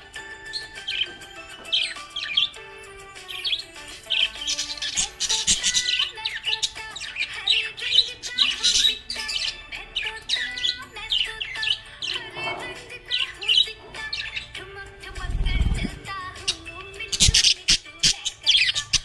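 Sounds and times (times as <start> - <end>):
budgerigar chirping: 0.0 - 2.6, 3.2 - 14.6, 16.5 - 19.0.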